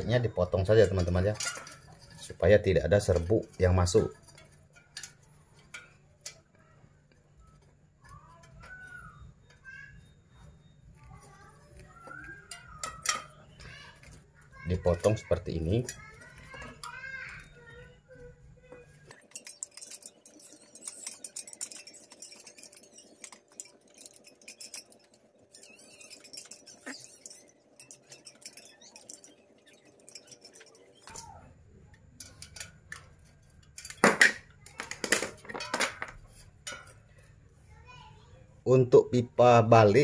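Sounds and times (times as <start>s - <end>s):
metal clinks: 0.0s - 37.4s.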